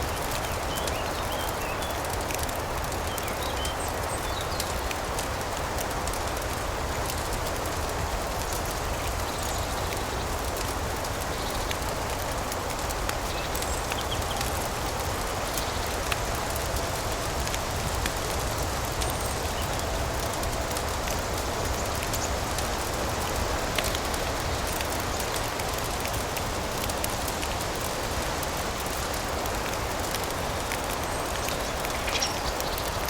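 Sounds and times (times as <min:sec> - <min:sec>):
crackling fireplace: 0:00.0 - 0:33.0
steady rain: 0:00.0 - 0:33.0.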